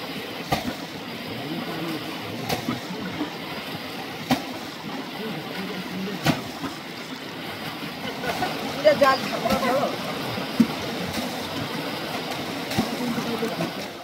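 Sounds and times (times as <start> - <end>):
sharp knocks or splashes: 0.0 - 1.0, 1.8 - 14.0
stream water running: 0.0 - 14.0.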